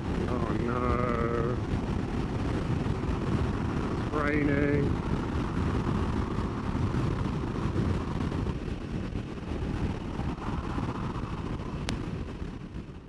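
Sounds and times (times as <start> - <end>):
motorcycle engine: 0.0 - 12.2
road noise: 0.0 - 13.0
wind buffeting microphone: 0.0 - 13.0.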